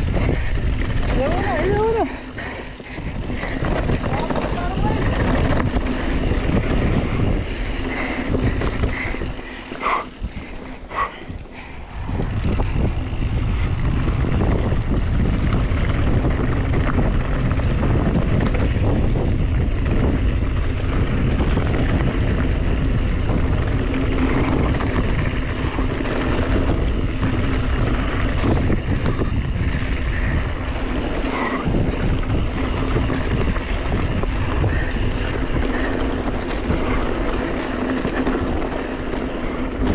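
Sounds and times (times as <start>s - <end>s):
mountain bike rattling on dirt trail: 0.0s - 39.9s
wind buffeting microphone: 0.0s - 39.9s.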